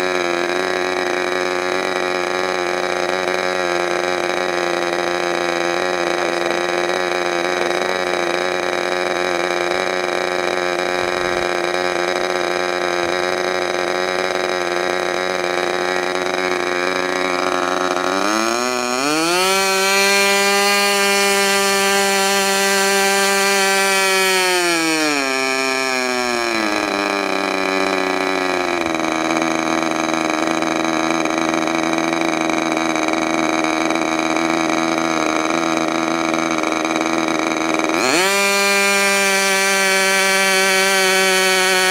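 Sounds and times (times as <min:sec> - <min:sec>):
model airplane engine running: 0:00.0 - 0:41.9.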